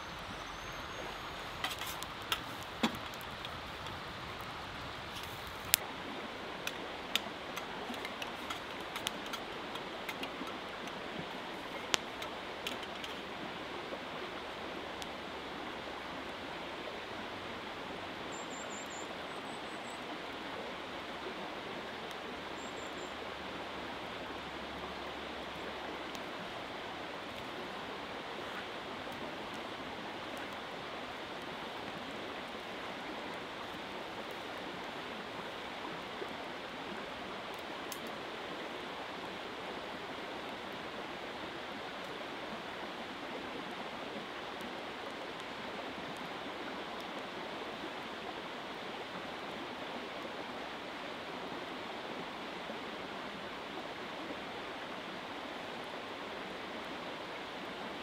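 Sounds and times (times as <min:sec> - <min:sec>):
campfire crackles: 0:00.0 - 0:58.0
small river flowing: 0:00.0 - 0:58.0.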